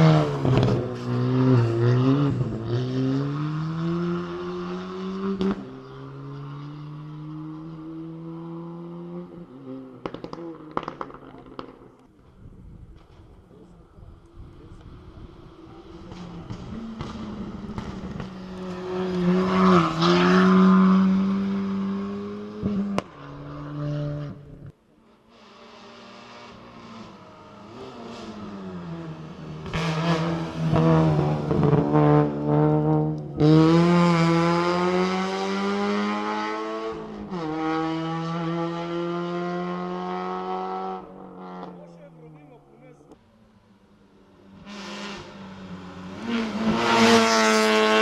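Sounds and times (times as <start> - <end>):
rally car engines revving: 0.0 - 12.1, 12.9 - 48.0.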